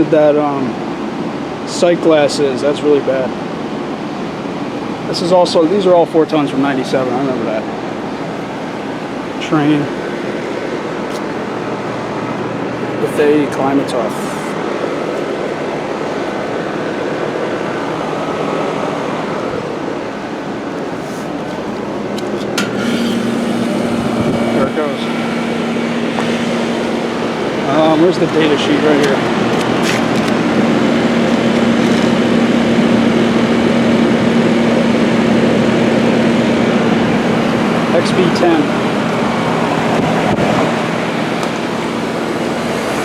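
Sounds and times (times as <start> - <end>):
heat pump fan whoosh: 0.0 - 43.0.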